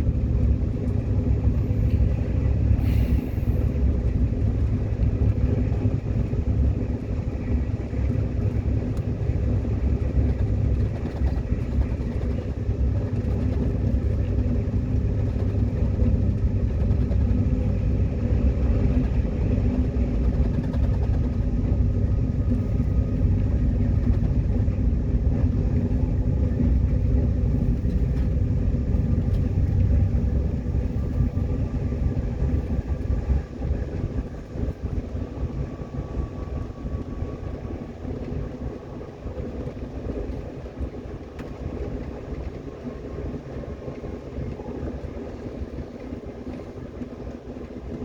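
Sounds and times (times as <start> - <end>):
train rumbling from inside cabin: 0.0 - 48.0.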